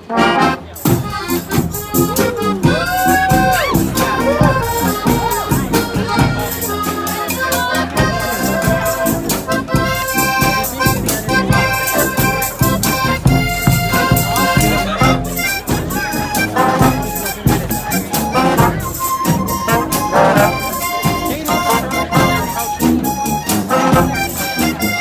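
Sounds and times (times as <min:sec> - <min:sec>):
marching band playing: 0:00.0 - 0:25.0.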